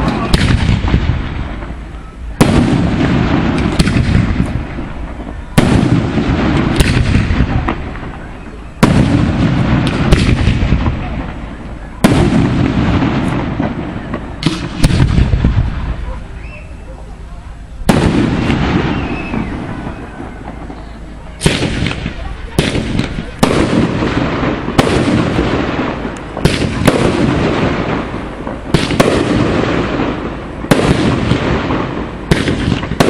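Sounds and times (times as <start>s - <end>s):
fireworks bangs: 0.0s - 33.0s
fireworks crackling and rumbling: 0.0s - 33.0s.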